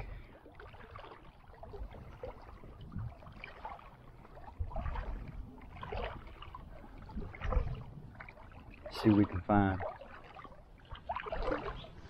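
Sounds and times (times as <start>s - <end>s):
faint water splashing: 0.0s - 12.0s.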